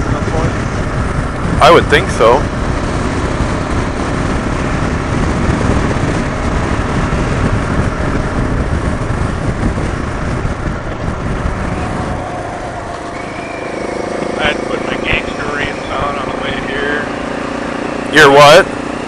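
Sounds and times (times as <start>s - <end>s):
motorcycle engine: 0.0s - 19.0s
wind rush over microphone: 0.0s - 19.0s.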